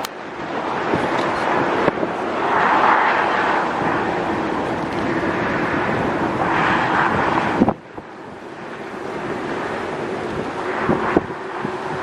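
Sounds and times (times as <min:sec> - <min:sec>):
vehicle drone: 0:00.0 - 0:12.0
wind rushing: 0:00.0 - 0:12.0.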